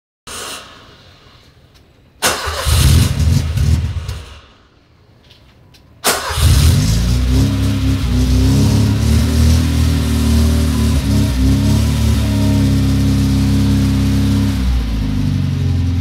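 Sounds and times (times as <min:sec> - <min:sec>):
car engine starting and idling: 0:00.3 - 0:04.8, 0:06.0 - 0:16.0.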